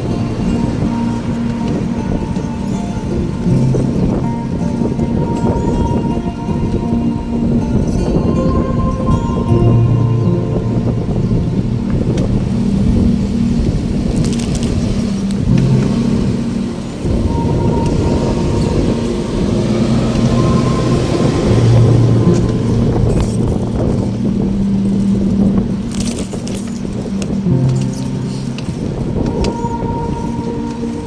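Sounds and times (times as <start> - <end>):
car traffic: 0.0 - 31.0
wind on microphone: 0.0 - 31.0.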